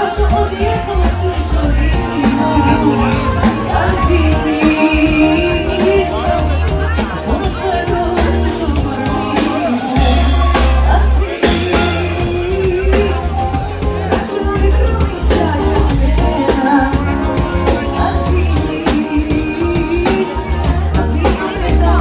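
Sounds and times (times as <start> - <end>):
live band with drums and bass: 0.0 - 22.0
woman singing pop song: 0.0 - 22.0.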